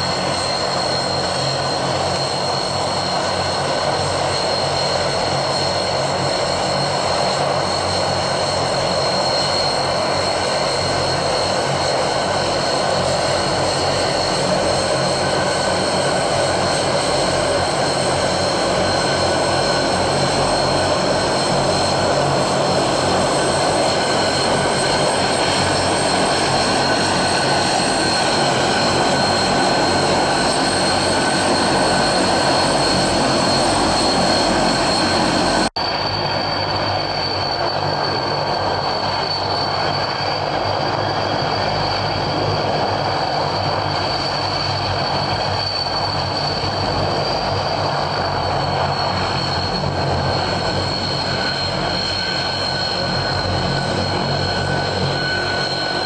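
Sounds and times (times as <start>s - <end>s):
high whine: 0.0s - 56.0s
propeller aircraft engines: 0.0s - 56.0s.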